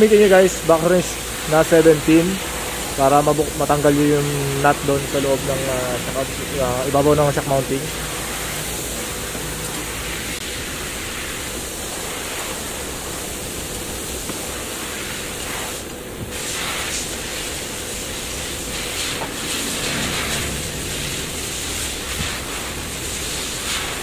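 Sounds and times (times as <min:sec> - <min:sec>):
workshop background hiss: 0:00.0 - 0:24.0.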